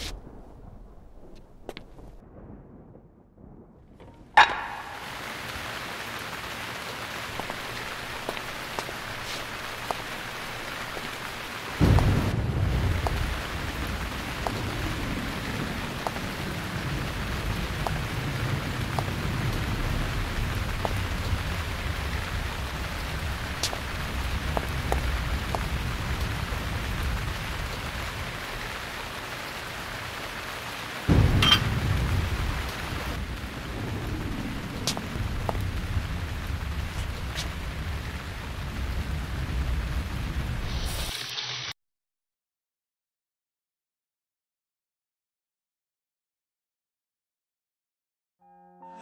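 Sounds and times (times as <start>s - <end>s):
steady rain hiss: 0.0s - 2.6s, 4.3s - 41.7s
thunderclap with low rumble: 0.0s - 40.8s.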